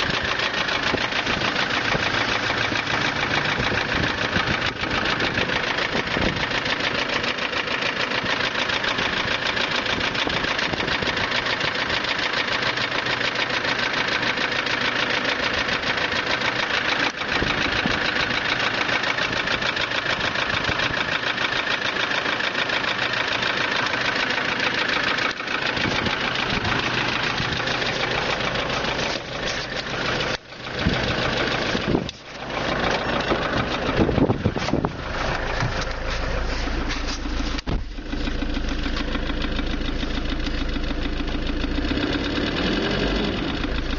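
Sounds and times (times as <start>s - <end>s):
diesel engine idling with knock: 0.0s - 43.9s.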